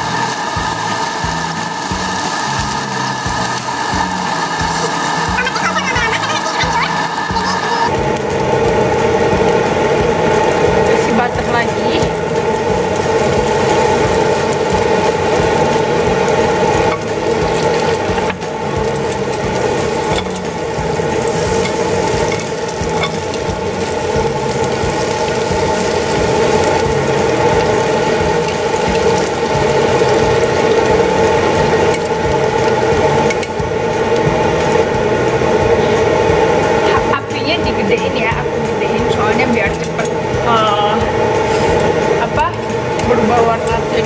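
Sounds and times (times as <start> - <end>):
bread sizzling in frying pan: 0.0 - 44.0
loud mechanical hum: 0.0 - 44.0.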